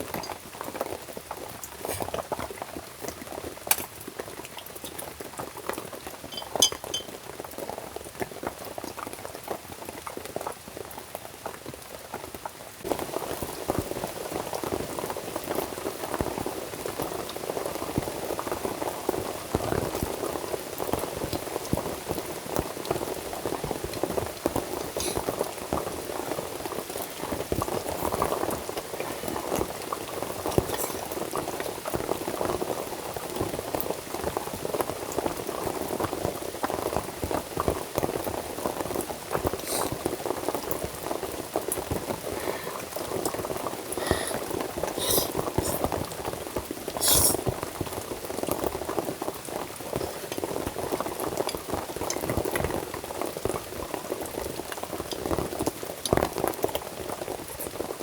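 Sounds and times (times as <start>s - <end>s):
liquid boiling in a pot: 7.9s - 58.0s.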